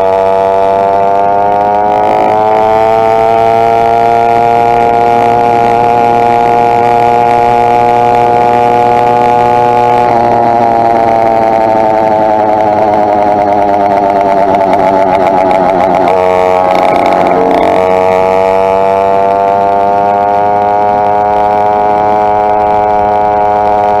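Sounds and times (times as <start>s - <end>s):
two-stroke bicycle engine running: 0.0s - 20.2s.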